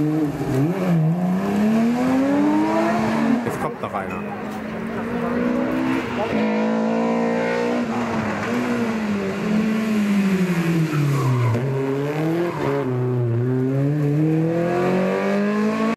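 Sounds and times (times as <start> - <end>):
rally car engine revving: 0.0 - 3.8, 4.8 - 15.9.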